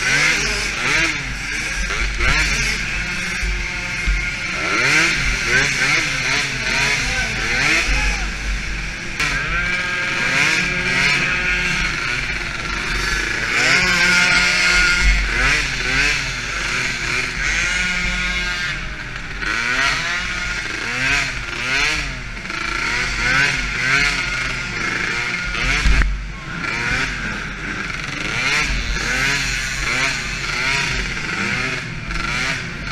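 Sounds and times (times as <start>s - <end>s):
other quad engines: 0.0s - 32.9s
small quad engine revving: 0.0s - 32.9s.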